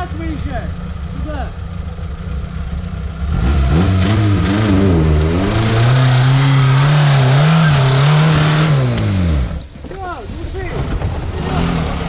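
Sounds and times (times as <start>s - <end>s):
vehicle engine revving: 0.0s - 9.7s, 10.8s - 12.0s.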